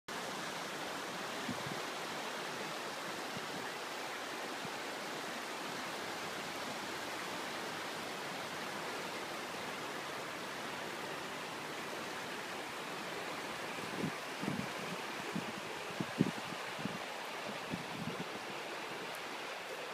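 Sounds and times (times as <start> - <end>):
river water rushing: 0.1 - 19.9.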